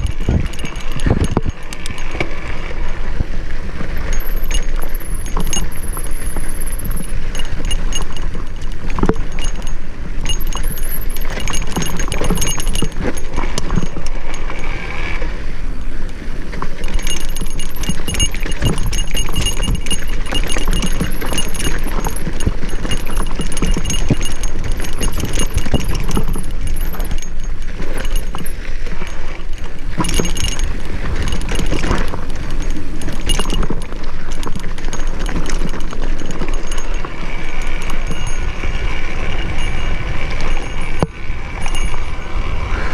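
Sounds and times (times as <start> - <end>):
mountain bike rattling over rough ground: 0.0 - 42.9
tyres on loose dirt: 0.0 - 42.9
wind buffeting microphone: 0.0 - 42.9.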